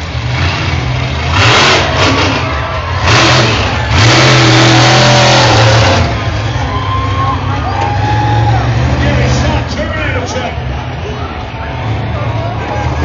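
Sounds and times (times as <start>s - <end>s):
truck engine idling: 0.0s - 13.0s
truck engine revving: 0.0s - 13.0s.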